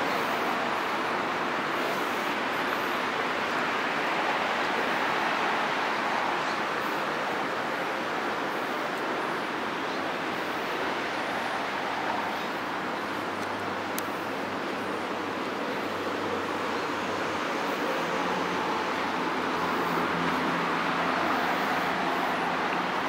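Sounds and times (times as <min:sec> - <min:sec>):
water rushing down channel: 0:00.0 - 0:23.0.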